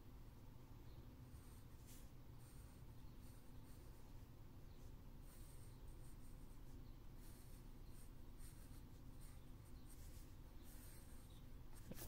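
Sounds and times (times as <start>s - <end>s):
pencil scratching on paper: 1.1s - 12.0s.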